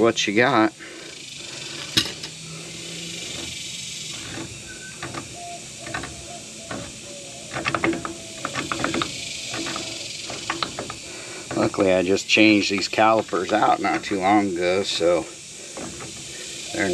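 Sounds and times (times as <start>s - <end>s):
steady hiss: 0.0s - 16.9s.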